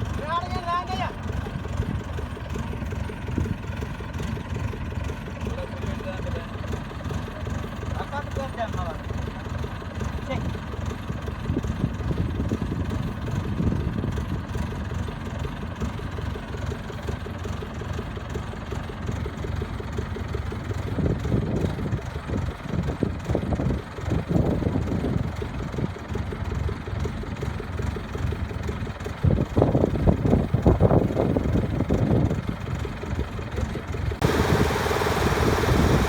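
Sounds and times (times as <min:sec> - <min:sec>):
diesel engine of farm machinery: 0:00.0 - 0:36.0.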